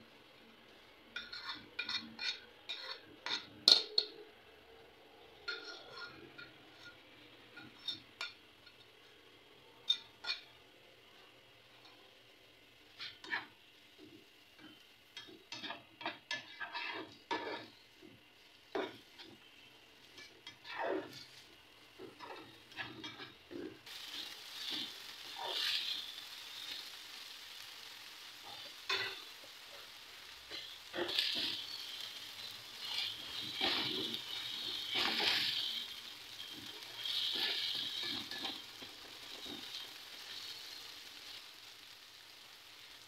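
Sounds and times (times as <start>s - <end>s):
vegetables sizzling in oil: 0.0s - 43.0s
spatula scraping frying pan: 1.1s - 4.2s, 5.3s - 9.2s, 9.8s - 10.6s, 12.8s - 42.0s.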